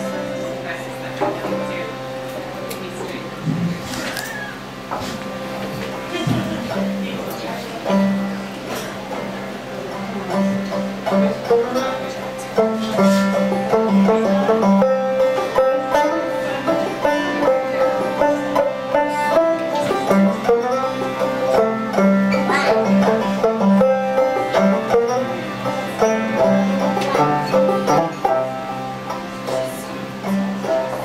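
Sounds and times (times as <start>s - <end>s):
harmonium chords: 0.0s - 3.6s, 4.7s - 31.0s
banjo picking folk tune: 0.0s - 3.9s, 4.8s - 31.0s.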